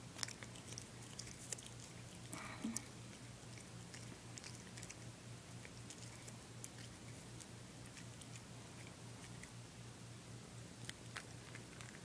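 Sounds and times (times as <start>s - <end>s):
cat chewing crunchy food: 0.0s - 9.6s, 10.6s - 12.0s
low steady hum: 0.0s - 12.0s.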